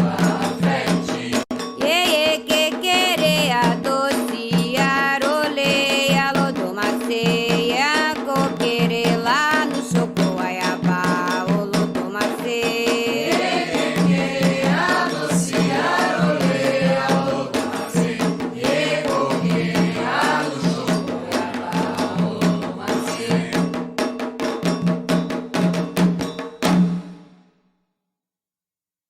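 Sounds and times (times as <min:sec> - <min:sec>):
voices singing a ritual song: 0:00.0 - 0:23.9
drums: 0:00.0 - 0:27.4
percussion strikes: 0:00.0 - 0:27.4.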